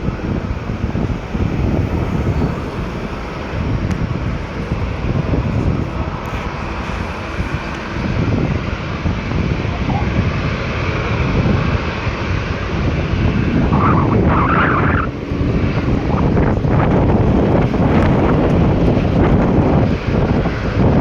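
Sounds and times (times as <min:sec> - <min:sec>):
jet engines rumbling: 0:00.0 - 0:21.0
wind buffeting microphone: 0:00.0 - 0:21.0.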